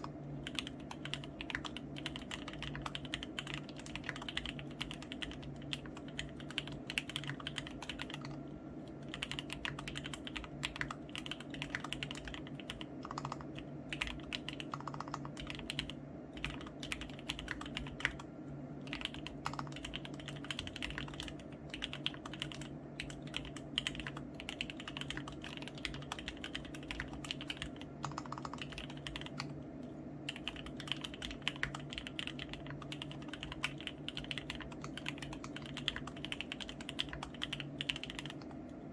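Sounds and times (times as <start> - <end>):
fast typing on mechanical keyboard: 0.0 - 29.6, 30.3 - 38.6
steady low hum: 0.0 - 38.9.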